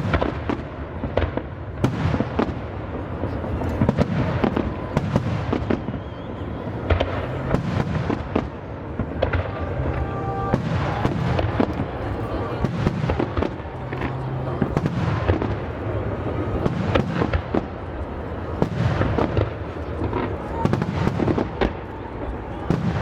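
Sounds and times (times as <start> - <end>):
fireworks bangs: 0.0 - 23.0
fireworks rumble and crackle: 0.0 - 23.0.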